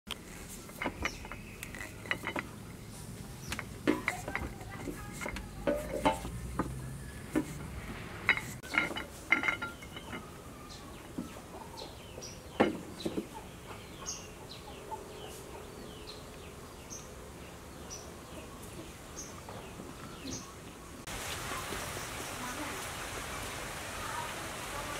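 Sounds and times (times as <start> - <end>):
chickens calling: 0.2 - 22.4.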